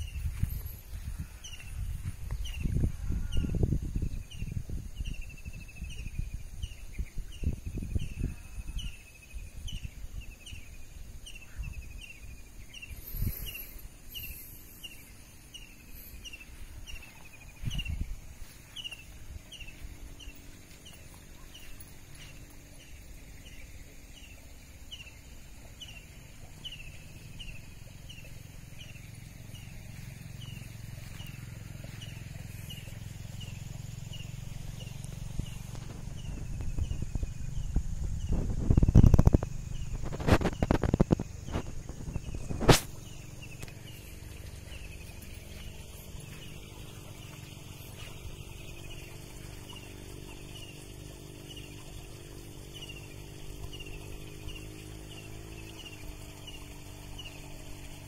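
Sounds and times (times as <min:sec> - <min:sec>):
low wind rumble: 0:00.0 - 0:57.9.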